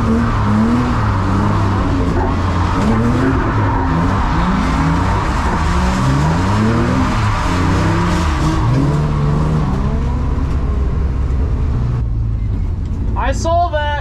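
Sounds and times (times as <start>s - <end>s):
car engine revving: 0.0s - 12.2s
tyre and road noise: 0.0s - 13.4s.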